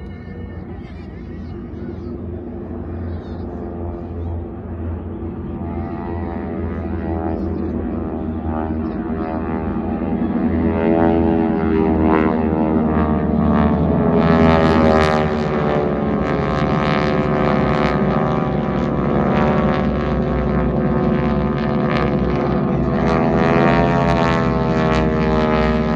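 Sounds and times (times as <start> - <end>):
propeller airplanes droning overhead: 0.0 - 25.9.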